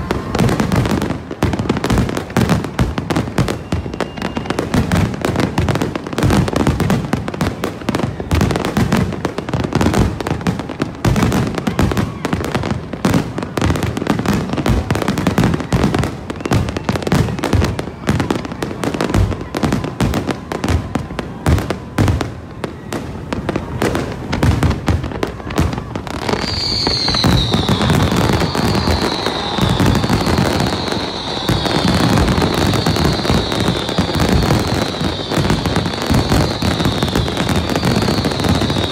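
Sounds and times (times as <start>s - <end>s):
descending firework whistles: 0.0s - 38.9s
fireworks bursting and crackling: 0.0s - 38.9s.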